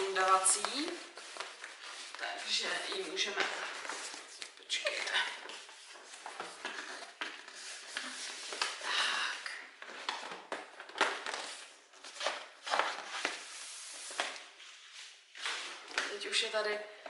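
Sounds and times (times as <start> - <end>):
ribbon and packaging rustling: 0.0 - 16.7.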